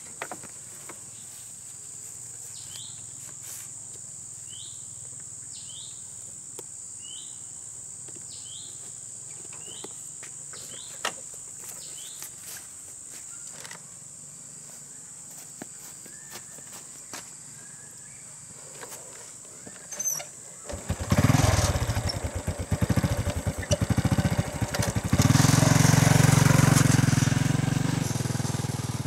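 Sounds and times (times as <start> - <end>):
insect chirps: 0.0 - 25.3
insects droning: 0.0 - 29.0.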